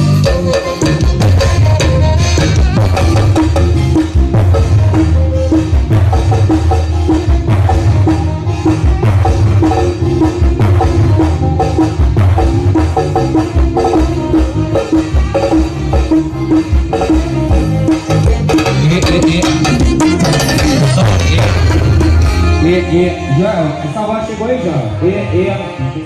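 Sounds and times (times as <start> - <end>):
loud bass-heavy instrumental music: 0.0 - 26.0.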